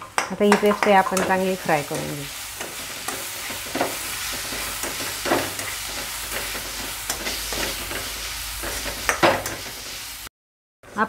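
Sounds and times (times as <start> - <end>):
onion sizzling in hot oil: 0.0 - 10.3
metal spatula scraping a pan: 0.5 - 10.2.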